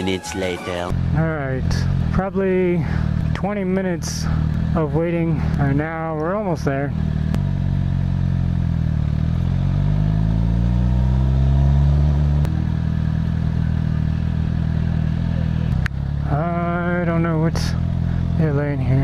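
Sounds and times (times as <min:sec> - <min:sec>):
motorcycle engine: 0:00.0 - 0:19.0.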